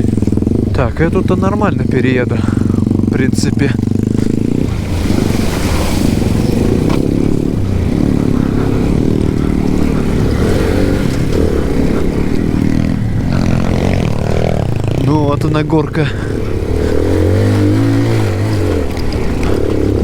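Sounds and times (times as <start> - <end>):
moped engine revving: 0.0 - 20.0.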